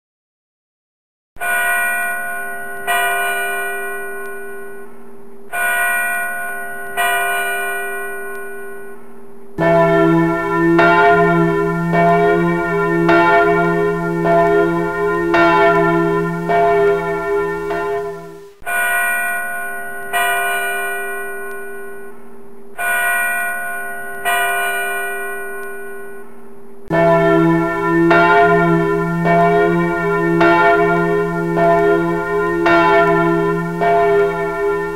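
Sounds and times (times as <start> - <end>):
church bell ringing: 1.4 - 4.9, 5.5 - 9.0, 9.6 - 22.2, 22.8 - 26.3, 26.9 - 34.9.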